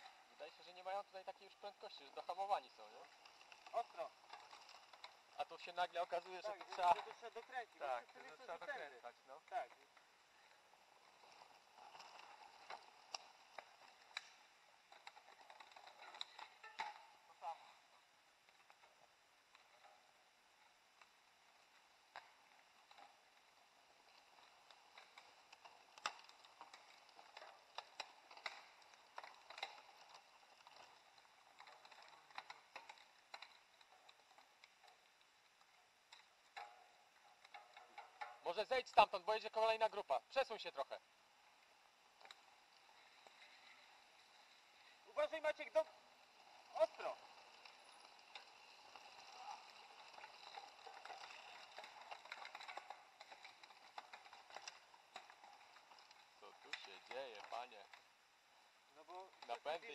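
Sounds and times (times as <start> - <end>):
background hiss: 0.0 - 59.9
mountain bikes rattling past: 0.0 - 59.9
tyres crackling on dirt: 0.0 - 59.9.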